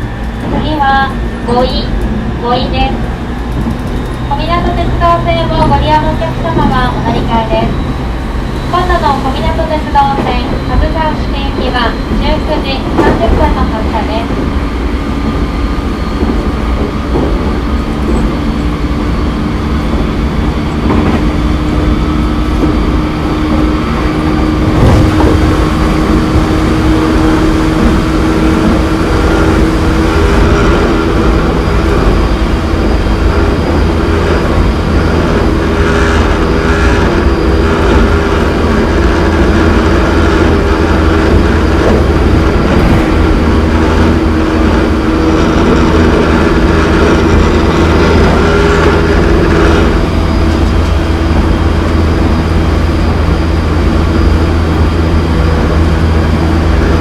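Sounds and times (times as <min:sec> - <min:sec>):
train motors humming: 0:00.0 - 0:57.0
wheel and rail noise: 0:00.0 - 0:57.0.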